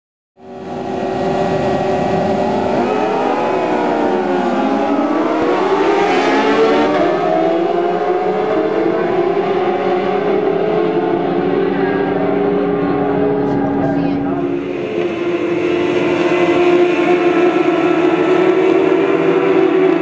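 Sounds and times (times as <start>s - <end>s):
racing motorcycles at high revs: 0.4s - 20.0s.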